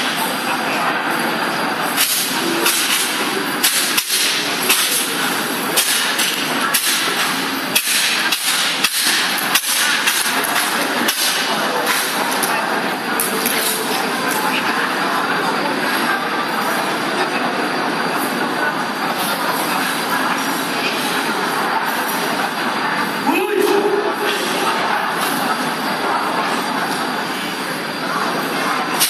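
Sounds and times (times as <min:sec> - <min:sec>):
sports hall din: 0:00.0 - 0:29.0.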